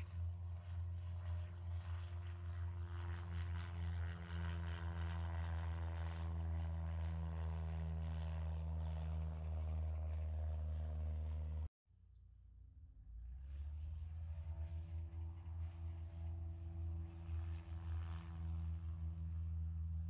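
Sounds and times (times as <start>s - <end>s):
engine drone: 0.0s - 11.7s, 12.6s - 20.0s.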